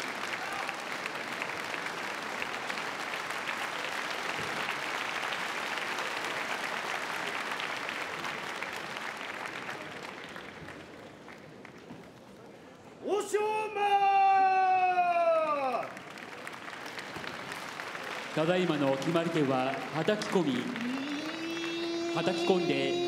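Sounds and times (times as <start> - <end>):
crowd applauding: 0.0 - 12.0, 14.9 - 23.0.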